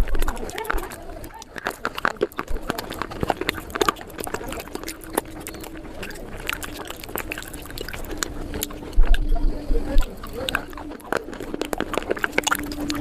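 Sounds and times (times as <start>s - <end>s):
fast crunching and chewing: 0.0s - 13.0s
wet mouth clicks: 0.0s - 13.0s.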